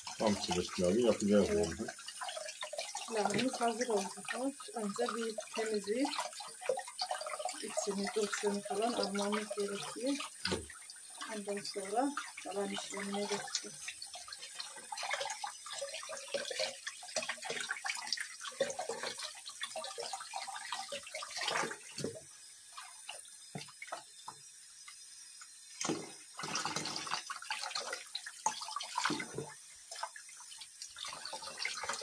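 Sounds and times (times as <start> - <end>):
water splashing and sloshing: 0.0 - 32.0.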